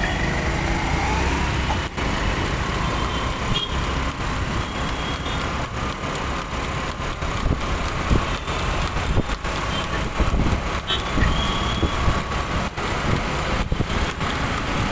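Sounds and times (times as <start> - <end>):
dense road traffic rumble: 0.0 - 14.9.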